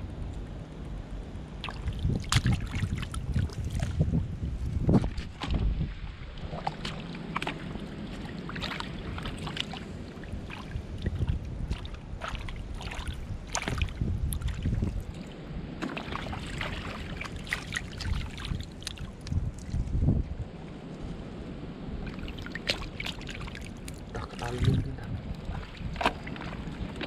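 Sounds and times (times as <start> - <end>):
wind rumble on microphone: 0.0 - 27.0
hand sloshing through water and mud: 1.6 - 19.9, 22.0 - 27.0.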